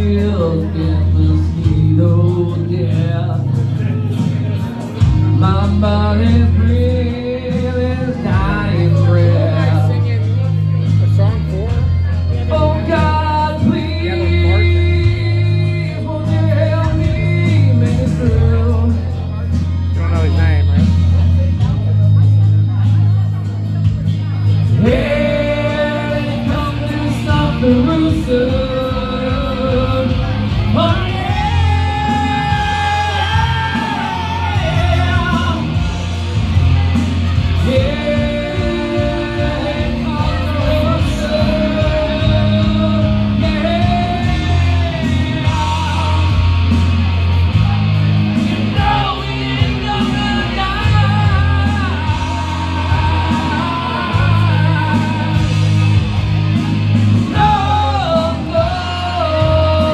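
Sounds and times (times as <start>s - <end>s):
man singing into a microphone: 0.0s - 59.9s
rock backing track: 0.0s - 59.9s.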